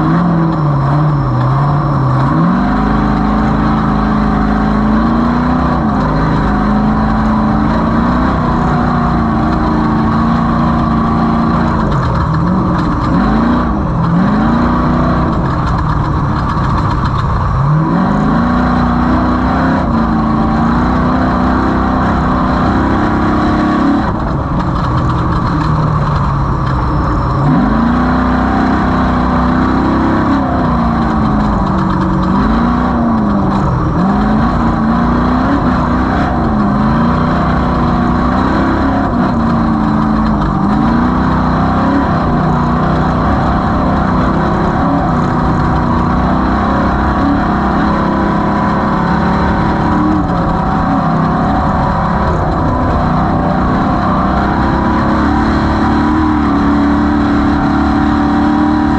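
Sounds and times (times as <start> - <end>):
low rumble: 0.0 - 58.2
race vehicle engine revving: 0.0 - 58.9.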